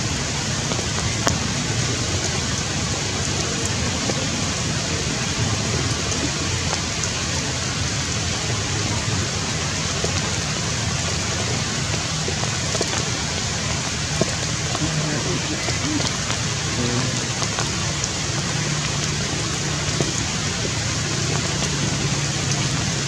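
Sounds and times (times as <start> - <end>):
rain falling on foliage: 0.0 - 23.0
sharp drip ticks: 0.7 - 23.0.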